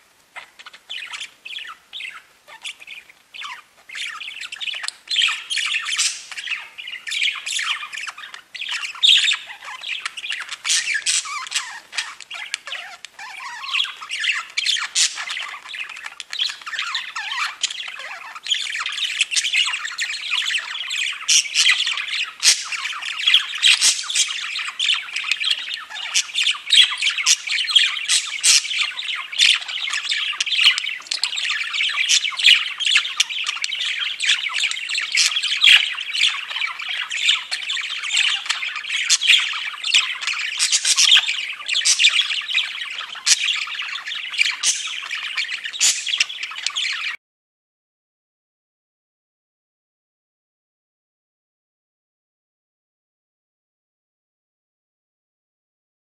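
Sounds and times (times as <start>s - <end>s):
budgerigars chattering: 0.4s - 47.2s.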